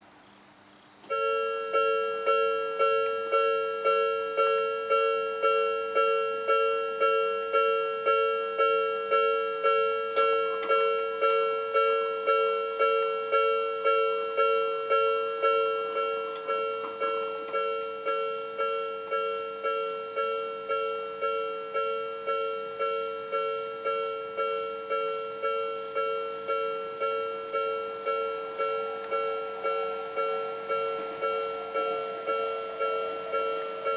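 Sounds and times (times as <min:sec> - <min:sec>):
level-crossing alarm two-tone ringing: 0:01.1 - 0:33.9.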